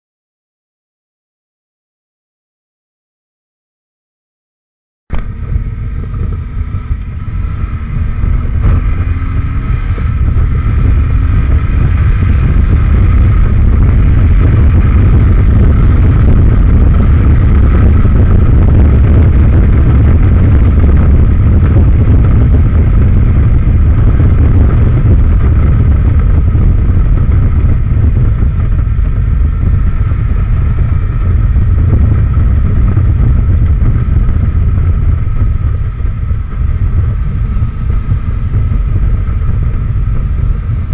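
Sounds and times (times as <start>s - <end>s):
motorcycle engine: 5.1s - 40.9s
wind and road noise: 5.1s - 40.9s.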